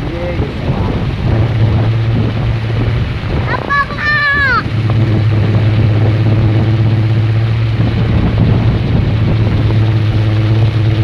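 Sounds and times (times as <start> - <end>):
wind noise on microphone: 0.0 - 11.0
wooden propeller droning: 0.0 - 11.0.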